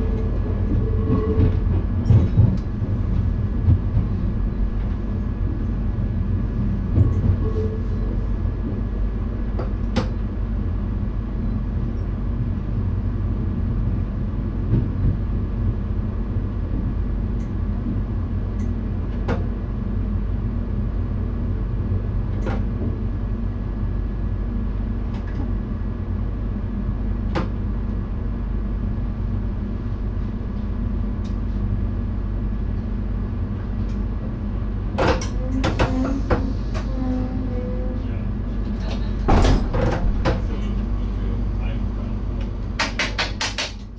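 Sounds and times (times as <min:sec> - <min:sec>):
train cab hum: 0:00.0 - 0:43.9.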